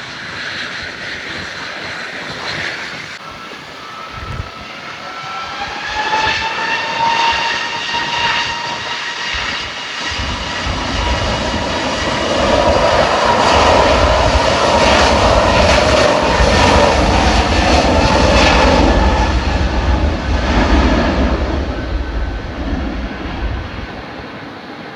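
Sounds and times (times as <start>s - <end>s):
jet engine whine: 0.0s - 24.9s
jet engines roaring: 0.0s - 24.9s.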